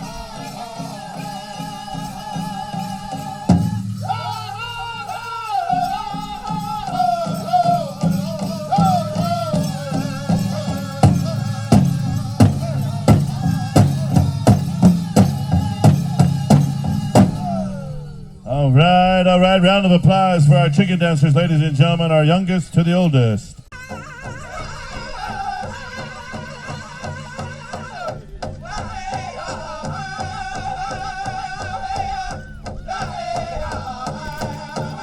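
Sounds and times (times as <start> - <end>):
big hand drum beats: 0.0 - 18.1, 23.6 - 35.0
group singing in high voices: 0.0 - 22.3, 23.7 - 35.0.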